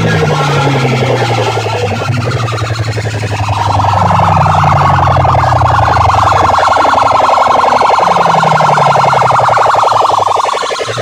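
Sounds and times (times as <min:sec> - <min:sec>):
deep bass tone: 0:00.0 - 0:11.0
pulsing siren-like tone: 0:00.0 - 0:11.0.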